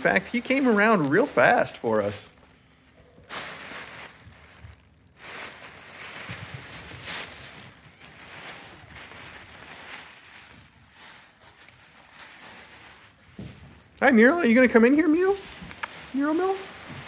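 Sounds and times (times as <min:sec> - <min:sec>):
tissue paper rustling: 0:00.0 - 0:17.0.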